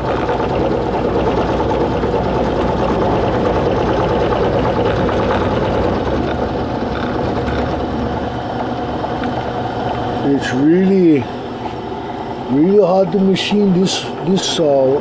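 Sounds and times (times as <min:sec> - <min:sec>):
milling machine whining hum: 0:00.0 - 0:15.0.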